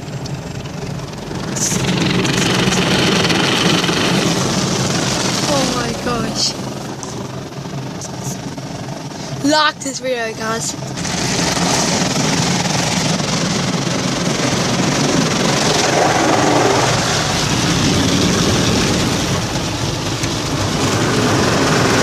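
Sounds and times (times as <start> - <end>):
car wash water and machinery: 0.0 - 22.0
low hum: 0.0 - 22.0.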